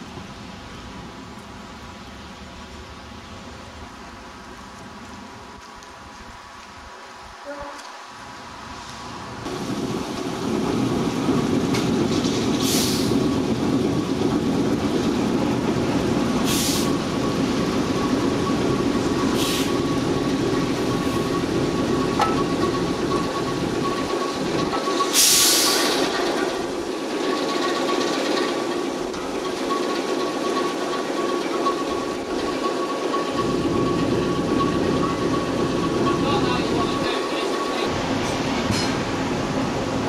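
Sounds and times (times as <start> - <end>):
diesel locomotive running: 0.0 - 40.0.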